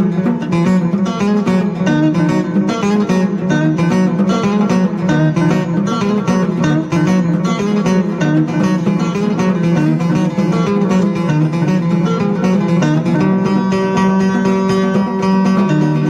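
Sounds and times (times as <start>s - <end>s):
fast plucked guitar: 0.0s - 16.0s.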